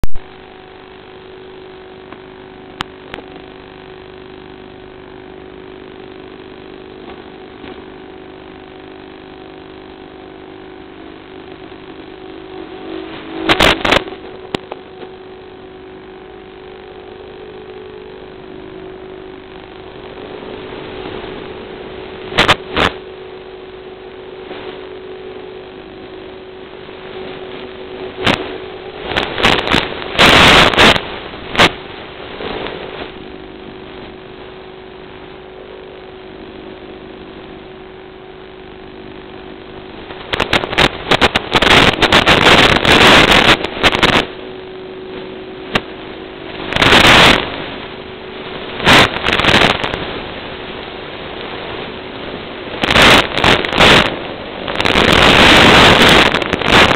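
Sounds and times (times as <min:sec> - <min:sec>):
drone motors humming: 0:00.0 - 0:56.9.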